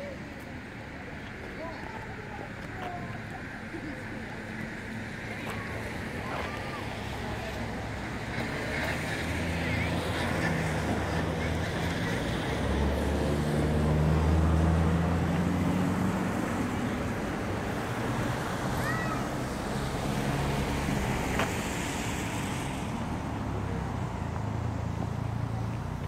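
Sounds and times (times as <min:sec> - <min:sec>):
traffic: 0:00.0 - 0:26.0
vehicle engine hum: 0:00.0 - 0:26.0.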